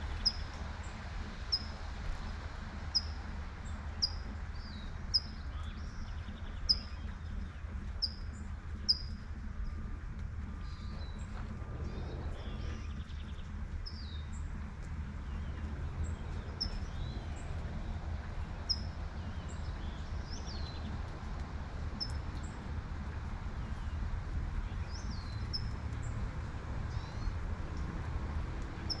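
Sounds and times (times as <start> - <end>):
distant traffic rumble: 0.0 - 29.0
light rain falling: 0.0 - 29.0
songbirds chirping: 0.0 - 29.0.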